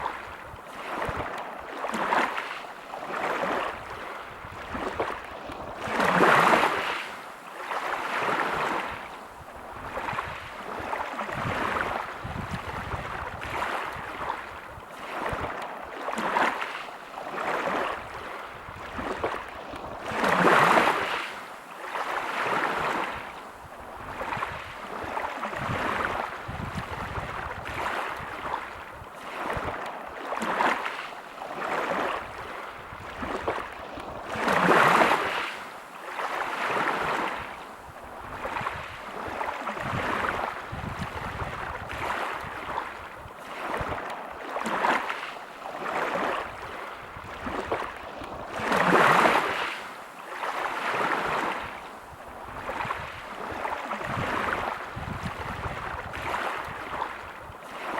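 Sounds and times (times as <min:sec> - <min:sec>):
waves breaking on pebble beach: 0:00.0 - 0:09.1, 0:09.8 - 0:23.3, 0:24.1 - 0:37.6, 0:38.3 - 0:57.9.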